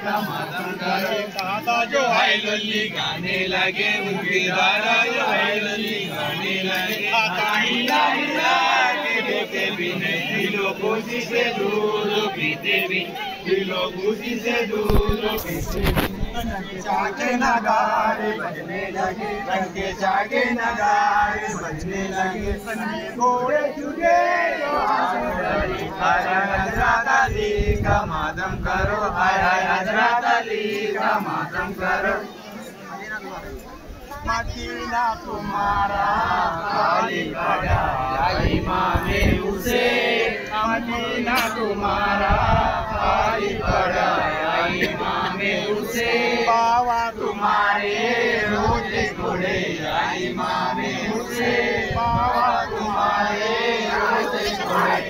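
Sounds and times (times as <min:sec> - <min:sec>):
voices chanting: 0:00.0 - 0:55.0.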